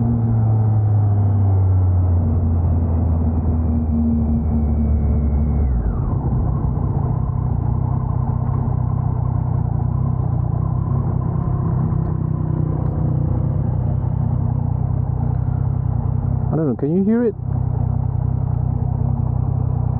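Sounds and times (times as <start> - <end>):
motorcycle engine: 0.0 - 19.9
road noise: 0.0 - 19.9.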